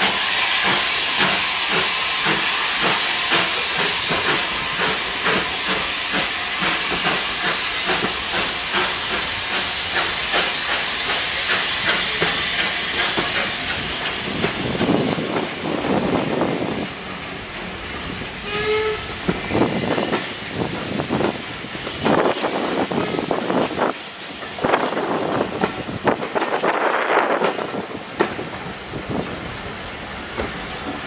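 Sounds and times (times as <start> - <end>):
steam hiss: 0.0 - 31.0
steam locomotive exhaust chuffing: 0.0 - 31.0
train coaches rolling: 0.0 - 31.0.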